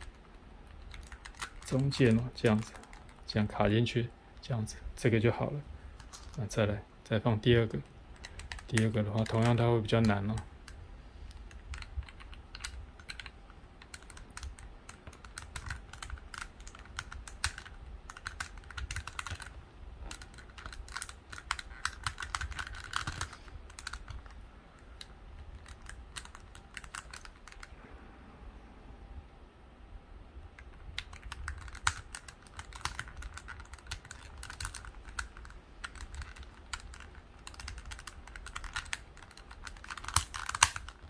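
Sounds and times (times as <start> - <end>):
plastic puzzle pieces clicking: 0.0 - 3.3, 6.0 - 6.4, 8.1 - 27.7, 30.6 - 41.0.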